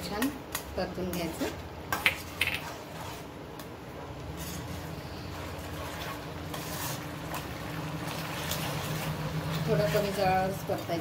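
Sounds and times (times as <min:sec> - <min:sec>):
spoon scraping pan: 0:01.0 - 0:10.2.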